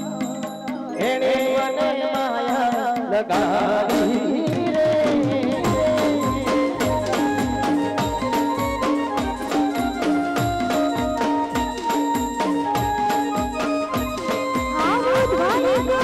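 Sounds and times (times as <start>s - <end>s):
dhol drum beat: 0.0s - 16.0s
keyboard: 0.0s - 16.0s
person singing devotional song: 0.0s - 16.0s.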